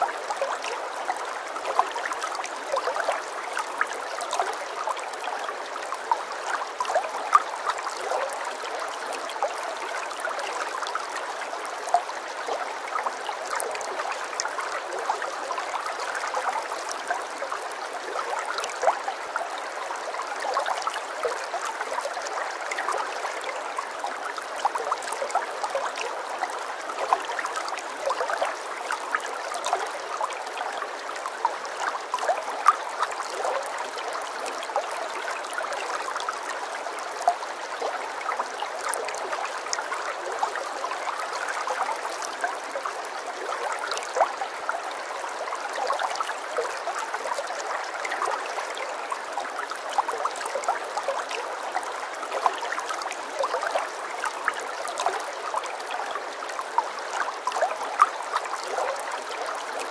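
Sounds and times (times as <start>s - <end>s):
stream water trickling and splashing: 0.0s - 59.9s.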